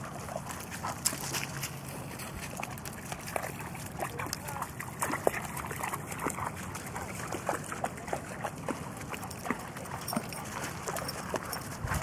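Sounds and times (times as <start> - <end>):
dogs splashing in water: 0.0 - 12.0.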